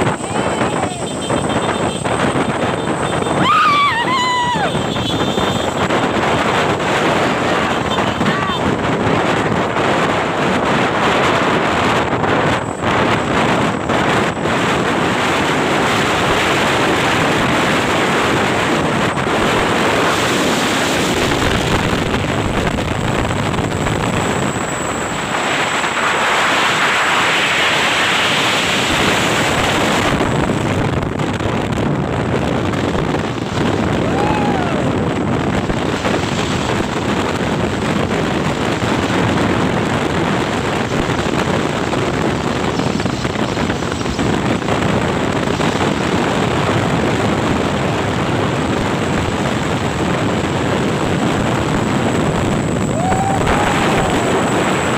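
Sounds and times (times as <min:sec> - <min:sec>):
road traffic: 0:00.0 - 0:54.9
wind on microphone: 0:00.0 - 0:54.9.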